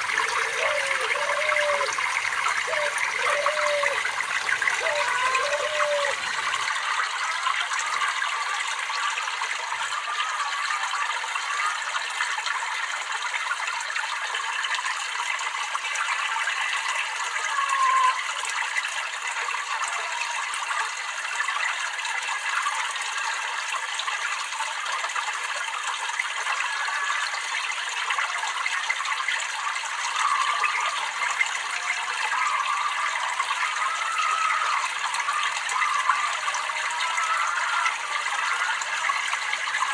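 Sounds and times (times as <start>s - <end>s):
water babbling and trickling: 0.0s - 39.9s.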